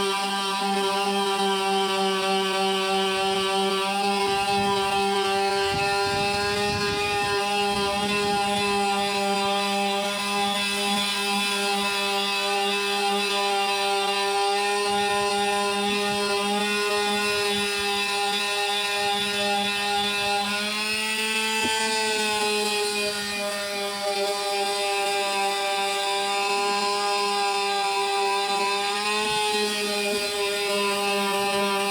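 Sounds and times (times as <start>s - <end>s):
electric sander motor whine: 0.0s - 31.9s.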